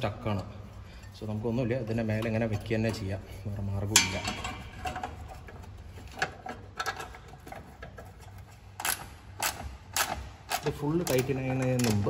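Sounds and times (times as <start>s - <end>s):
metal bracket clicking and knocking: 1.9s - 12.0s.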